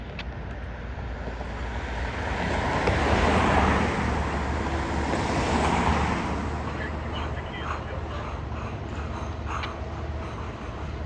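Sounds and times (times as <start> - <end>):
vehicle passing with tyre noise: 0.6 - 11.0.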